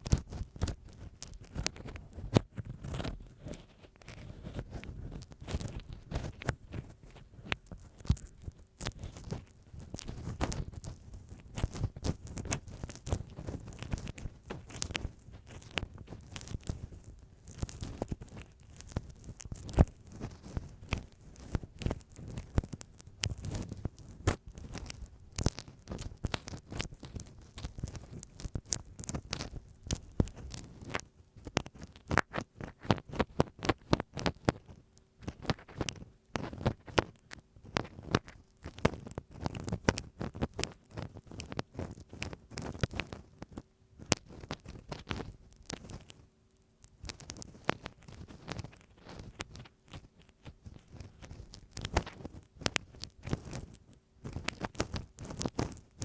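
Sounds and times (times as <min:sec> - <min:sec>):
ear pick scratching tape: 0:00.0 - 0:46.2, 0:46.9 - 0:56.0.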